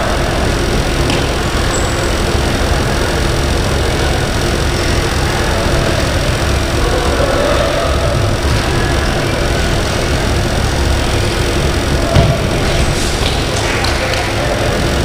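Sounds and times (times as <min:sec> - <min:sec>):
indoor hall rumbling: 0:00.0 - 0:15.0.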